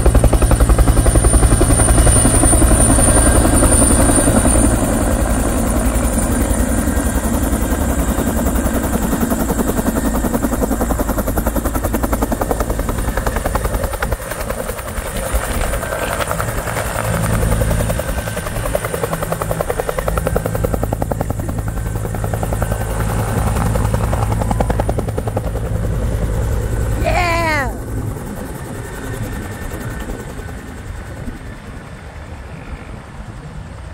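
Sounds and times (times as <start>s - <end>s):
helicopter rotor beating: 0.0s - 33.8s
high helicopter whine: 0.0s - 33.9s.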